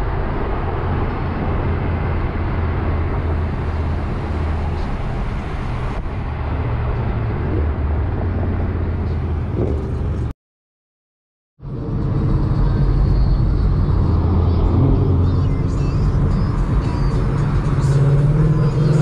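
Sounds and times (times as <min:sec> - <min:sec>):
car engines and tyres rumbling: 0:00.0 - 0:10.3, 0:11.6 - 0:19.0.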